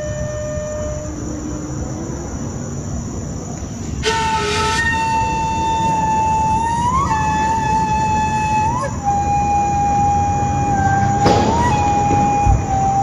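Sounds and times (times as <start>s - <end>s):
flute playing held notes: 0.0s - 2.2s, 4.0s - 13.0s
steady low hiss: 0.0s - 13.0s.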